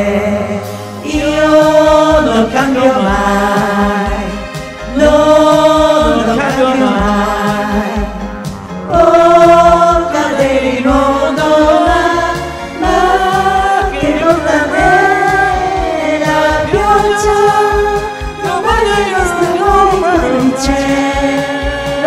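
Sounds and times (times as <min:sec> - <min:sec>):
group singing karaoke: 0:00.0 - 0:22.0
karaoke backing track with beat: 0:00.0 - 0:22.0.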